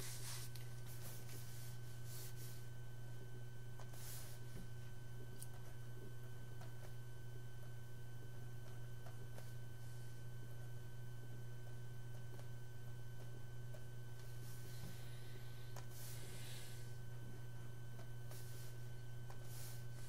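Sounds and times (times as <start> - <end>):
faint high whine: 0.0 - 20.0
low electrical hum: 0.0 - 20.0.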